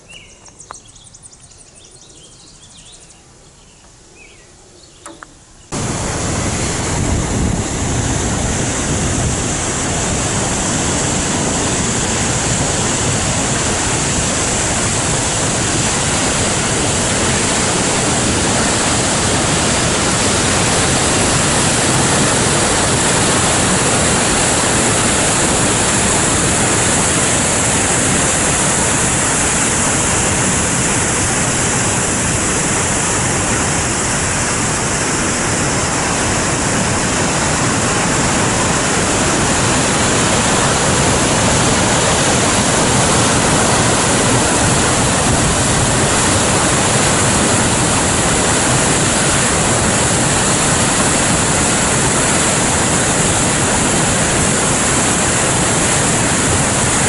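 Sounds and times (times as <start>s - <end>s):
waterfall rushing: 5.7s - 57.0s.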